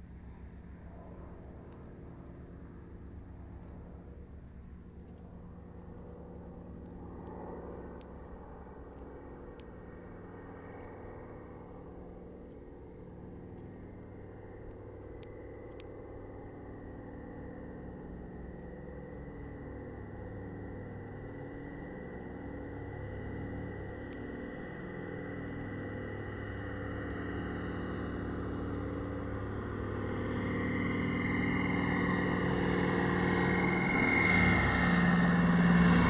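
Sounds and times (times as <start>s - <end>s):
propeller aircraft drone: 0.0s - 36.0s.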